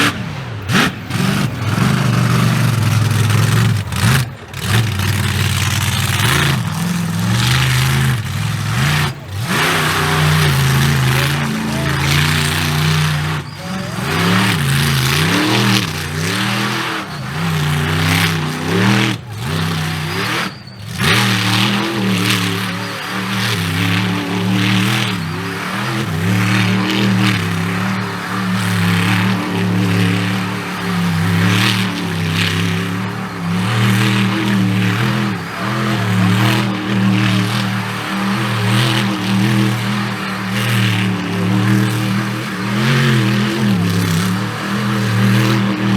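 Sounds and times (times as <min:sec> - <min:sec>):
truck engine revving hard: 0:00.0 - 0:45.9.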